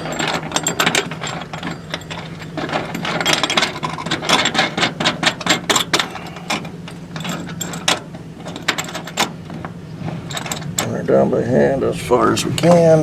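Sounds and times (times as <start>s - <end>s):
metallic clicks and clinks: 0.0s - 11.0s
steady low hum: 0.0s - 13.0s.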